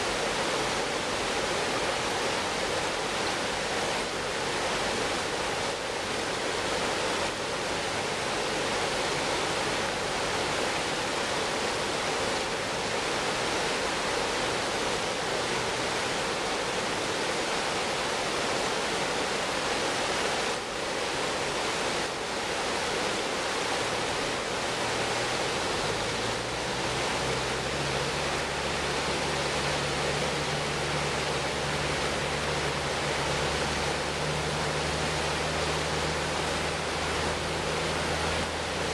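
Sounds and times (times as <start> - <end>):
low engine hum: 0.0 - 38.9
river water rushing over rocks: 0.0 - 38.9.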